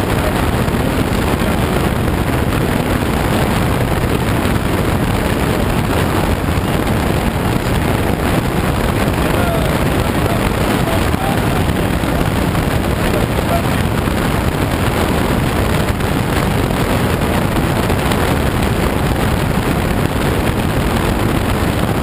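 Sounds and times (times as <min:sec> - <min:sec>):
air rushing over cockpit canopy: 0:00.0 - 0:22.0.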